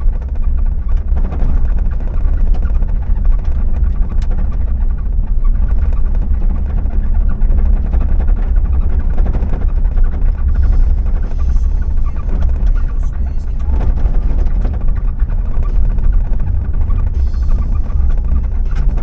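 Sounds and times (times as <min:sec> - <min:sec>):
faint clicks and rattles: 0:00.0 - 0:19.0
vehicle engine and road noise: 0:00.0 - 0:19.0.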